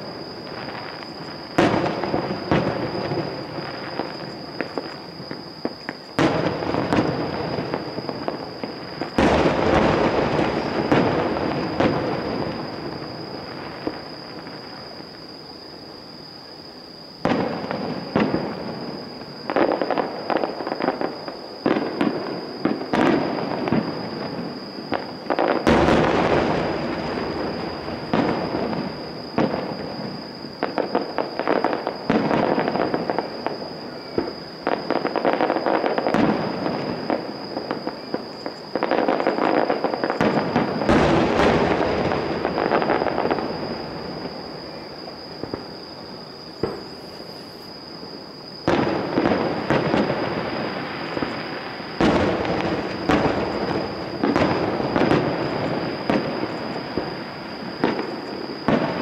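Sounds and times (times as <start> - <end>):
fireworks booming and crackling: 0.0 - 16.3, 17.1 - 59.0.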